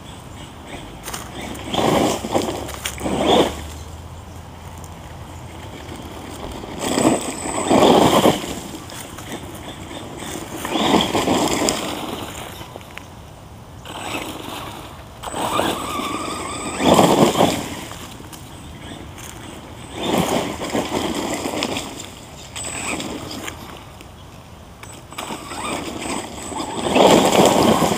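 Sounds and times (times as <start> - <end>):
electric toy truck motor and tyres: 0.0 - 13.1, 13.8 - 24.2, 24.8 - 27.9
faint high whine: 0.0 - 27.9.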